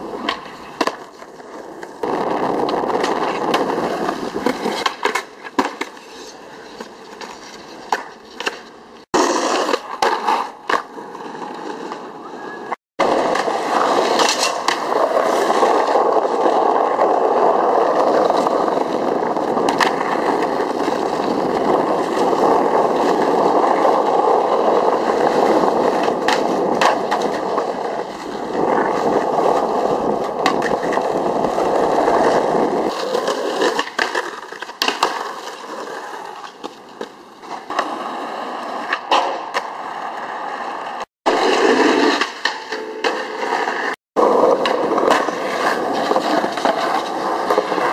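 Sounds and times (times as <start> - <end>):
skateboard clacking on ground: 0.0 - 47.9
skateboard wheels rolling on asphalt: 0.0 - 47.9.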